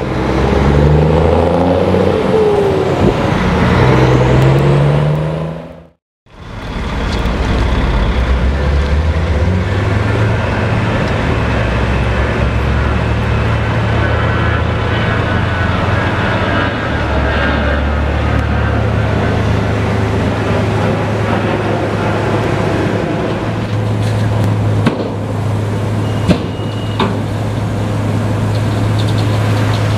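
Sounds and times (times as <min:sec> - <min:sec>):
diesel truck engine: 0:00.0 - 0:29.9.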